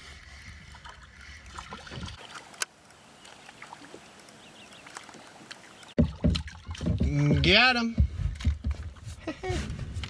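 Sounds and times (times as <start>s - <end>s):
faint water sounds: 0.0s - 10.0s.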